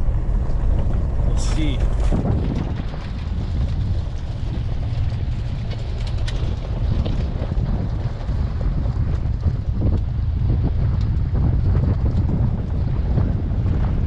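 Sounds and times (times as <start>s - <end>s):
van engine and road rumble: 0.0s - 14.0s
wind buffeting microphone: 0.0s - 14.0s.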